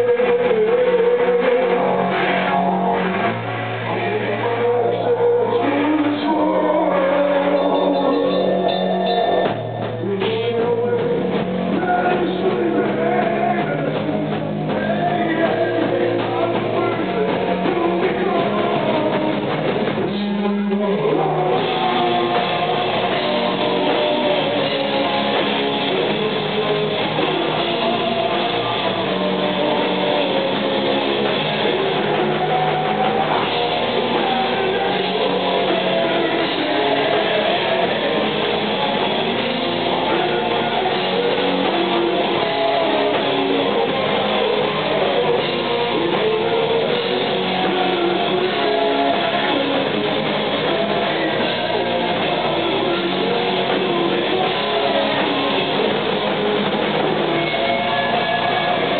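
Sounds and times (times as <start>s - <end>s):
rock band playing: 0.0s - 58.9s.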